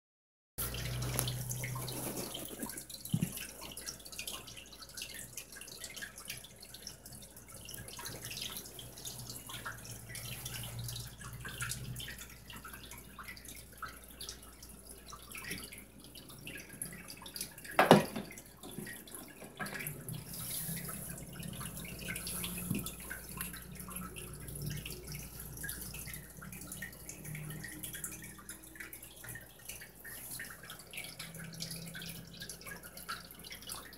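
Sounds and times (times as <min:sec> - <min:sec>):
water trickling in fish tank: 0:00.6 - 0:33.9.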